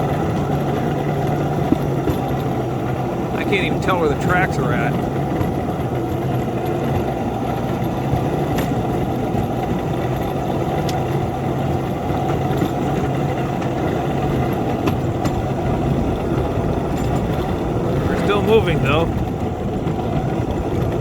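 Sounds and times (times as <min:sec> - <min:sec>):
locomotive engine under heavy load: 0:00.0 - 0:21.0.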